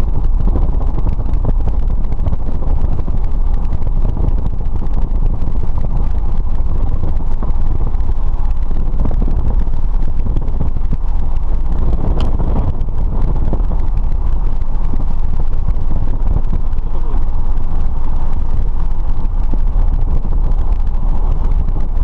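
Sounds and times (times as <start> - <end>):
airplane engine droning: 0.0 - 22.0
wind buffeting microphone: 0.0 - 22.0.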